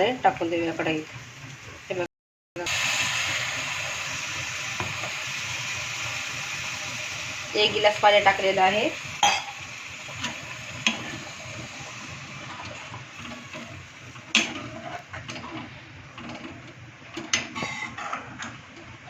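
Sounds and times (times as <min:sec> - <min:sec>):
curry cooking with steady hiss: 0:00.0 - 0:19.0.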